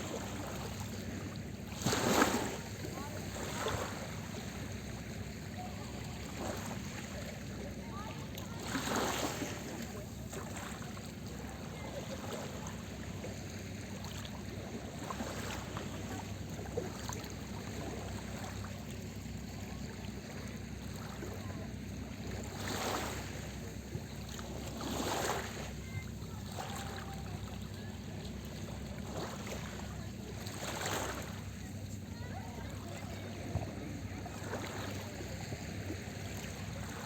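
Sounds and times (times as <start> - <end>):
small waves breaking on shore: 0.0 - 37.0.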